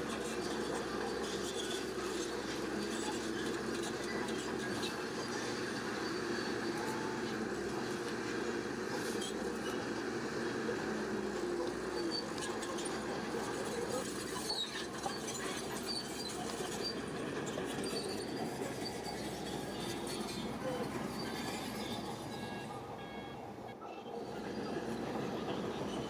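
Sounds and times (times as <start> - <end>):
diesel engine running: 0.0 - 26.0
steel tracks squealing: 0.0 - 26.0.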